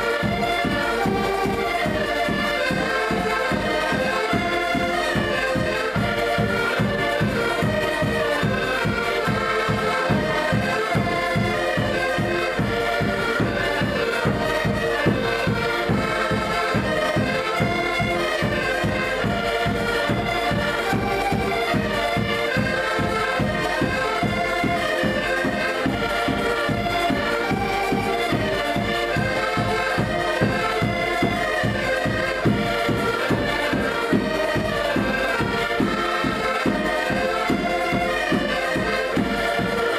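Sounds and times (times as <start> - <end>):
accordions playing chords: 0.0 - 39.9
drum beating steady rhythm: 0.0 - 39.9.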